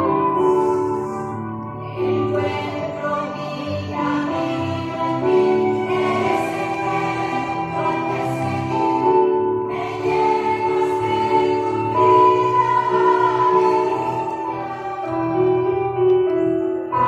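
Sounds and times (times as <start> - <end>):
choir singing held chords: 0.0 - 16.3.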